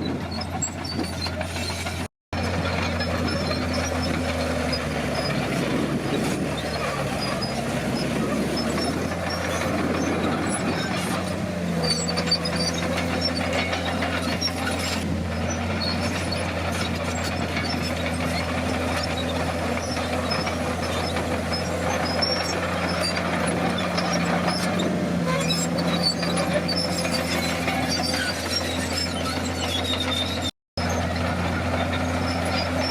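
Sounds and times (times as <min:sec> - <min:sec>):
bulldozer diesel engine running: 0:00.0 - 0:32.9.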